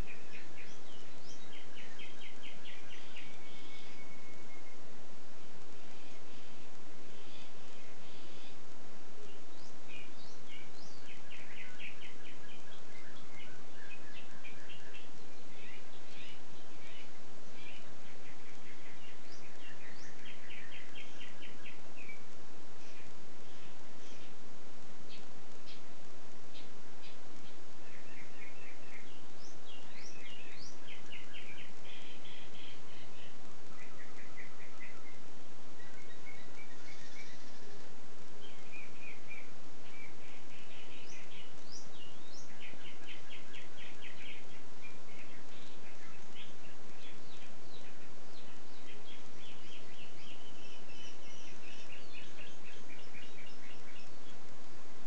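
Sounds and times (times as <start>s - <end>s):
mockingbird singing: 0.0s - 4.9s, 5.6s - 24.4s, 25.0s - 54.5s
background hiss: 0.0s - 55.0s.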